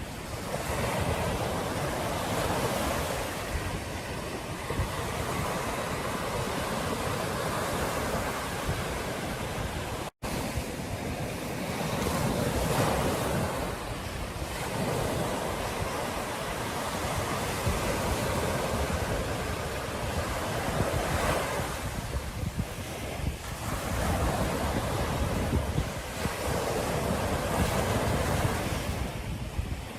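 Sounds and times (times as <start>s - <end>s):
ocean surf washing onto beach: 0.0s - 29.9s
wind rumbling on microphone: 0.0s - 29.9s.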